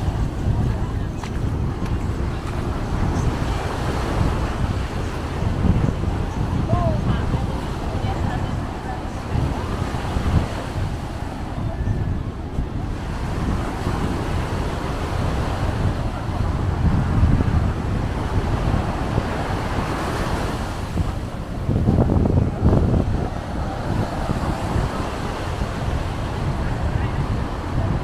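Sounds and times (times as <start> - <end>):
steady rushing noise: 0.0 - 28.0
wind buffeting microphone: 0.0 - 28.0.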